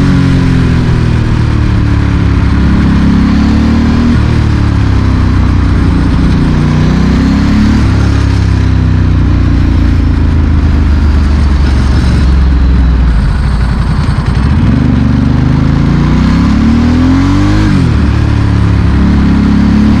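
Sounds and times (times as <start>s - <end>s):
loud motorcycle engine revving: 0.0s - 20.0s.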